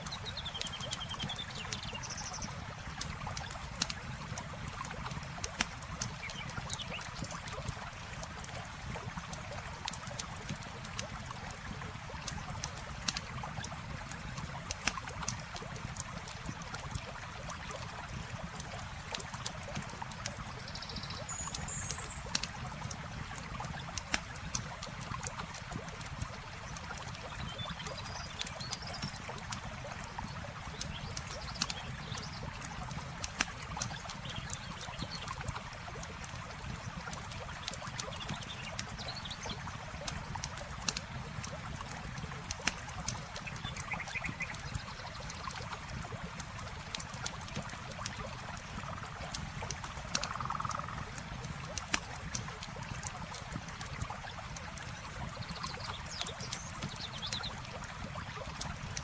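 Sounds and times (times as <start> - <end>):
campfire crackling and popping: 0.0 - 20.7, 21.5 - 59.0
river flowing: 0.0 - 59.0.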